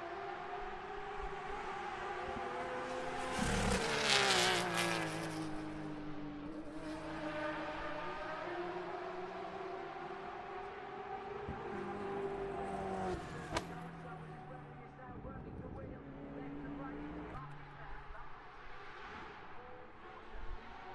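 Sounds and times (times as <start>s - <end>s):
distant race engines: 0.0s - 20.9s
race car passing at speed: 0.0s - 20.9s.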